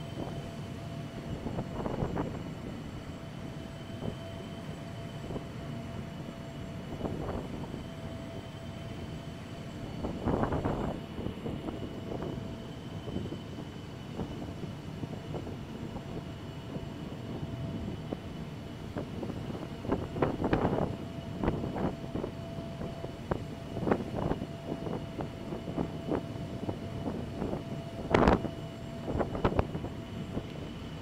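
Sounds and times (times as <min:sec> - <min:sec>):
mechanical whine: 0:00.0 - 0:31.0.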